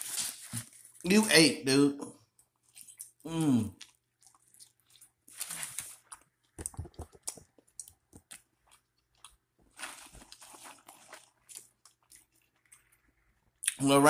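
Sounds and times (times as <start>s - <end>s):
person chewing crunchy food: 2.4s - 13.8s.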